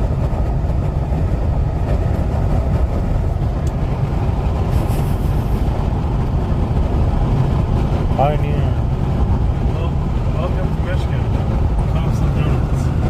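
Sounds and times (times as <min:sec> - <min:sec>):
road rumble and tyre noise: 0:00.0 - 0:13.0.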